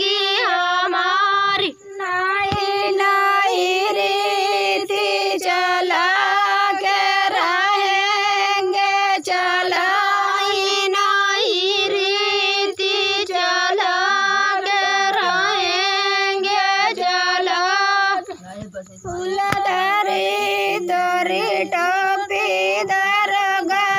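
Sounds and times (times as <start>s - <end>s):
women singing folk song: 0.0s - 23.9s.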